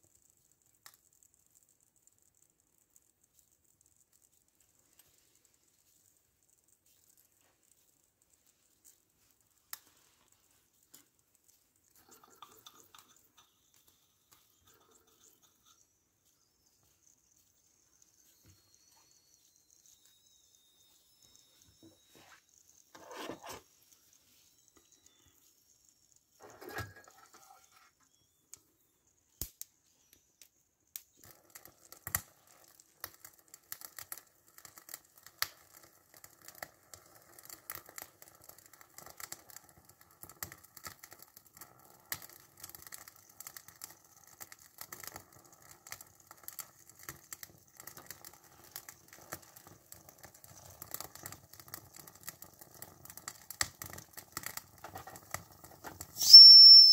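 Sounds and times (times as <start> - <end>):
toy steam engine fire crackling: 0.0 - 56.9.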